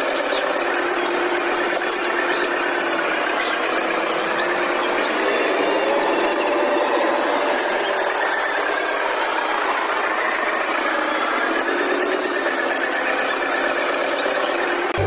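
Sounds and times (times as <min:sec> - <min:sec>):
electric motor and gears whirring: 0:00.0 - 0:15.0.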